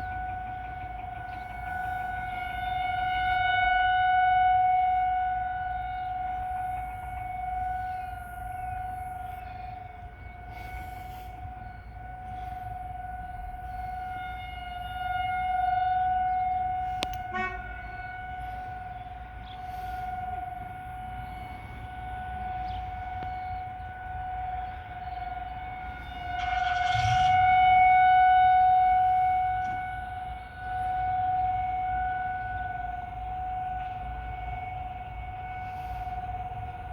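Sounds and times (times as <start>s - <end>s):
outdoor warning siren steady tone: 0.0s - 36.9s.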